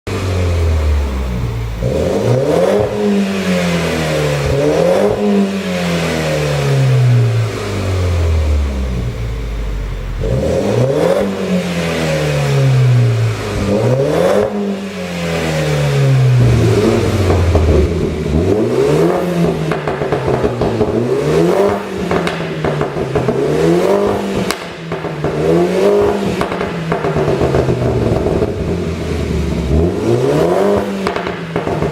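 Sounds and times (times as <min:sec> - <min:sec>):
exhaust popping and crackling: 0:00.1 - 0:12.0, 0:15.9 - 0:31.9
car engine revving: 0:00.1 - 0:31.9.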